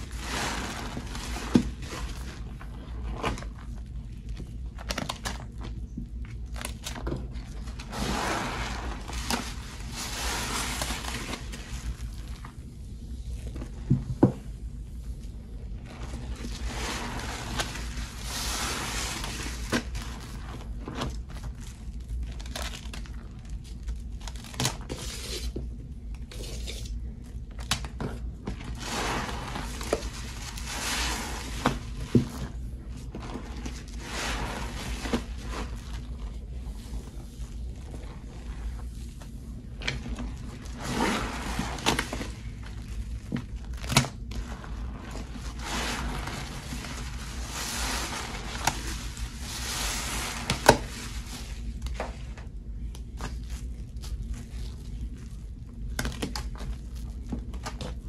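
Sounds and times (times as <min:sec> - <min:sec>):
wet bubbly crackling and squishing: 0:00.0 - 0:24.9, 0:27.0 - 0:58.0.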